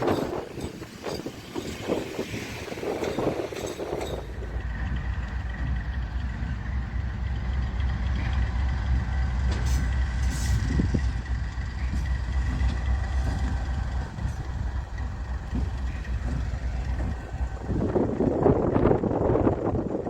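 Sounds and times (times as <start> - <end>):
locomotive low rumble: 0.0 - 20.0.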